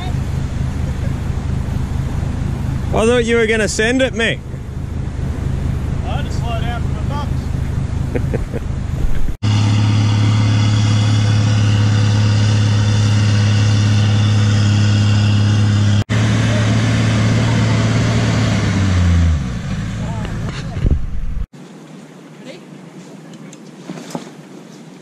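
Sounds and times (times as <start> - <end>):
vehicle engine running: 0.0 - 21.5.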